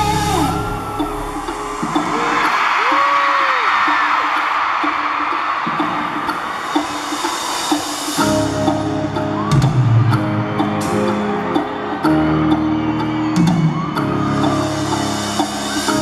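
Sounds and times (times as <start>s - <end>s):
pop concert music over pa: 0.0s - 16.0s.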